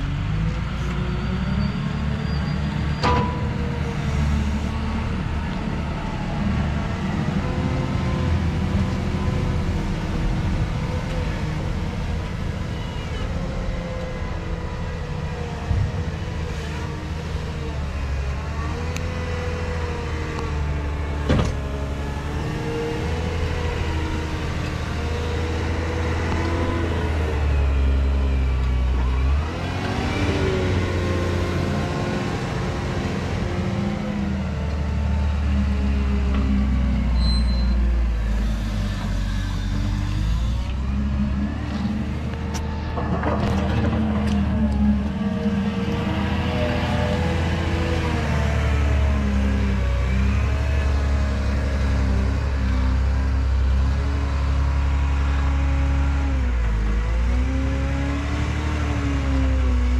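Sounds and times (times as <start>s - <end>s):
wheel loader diesel engine revving: 0.0s - 59.9s.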